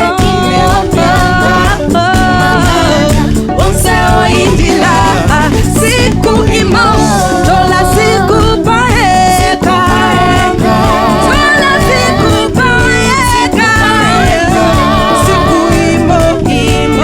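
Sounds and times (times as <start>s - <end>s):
drum beat: 0.0s - 17.0s
several voices singing together: 0.0s - 17.0s
steady bass notes: 0.0s - 17.0s.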